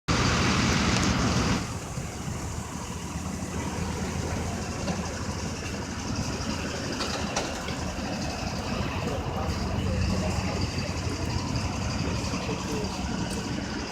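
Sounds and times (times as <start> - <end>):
vehicle engine idling: 0.1 - 13.9.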